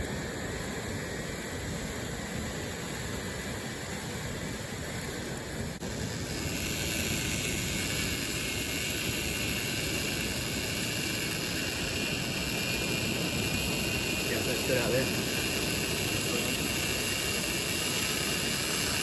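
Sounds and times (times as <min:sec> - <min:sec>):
drone rotors whirring: 0:00.0 - 0:19.0.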